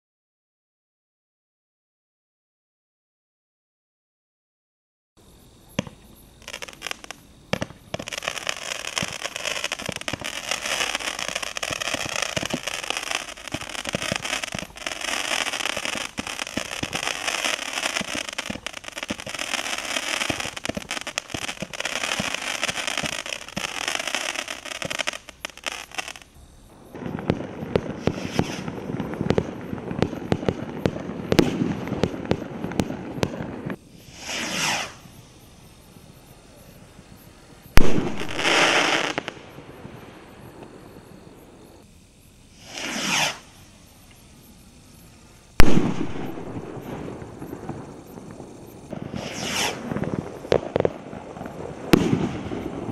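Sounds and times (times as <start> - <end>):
fireworks crackling and banging: 5.7 - 52.9.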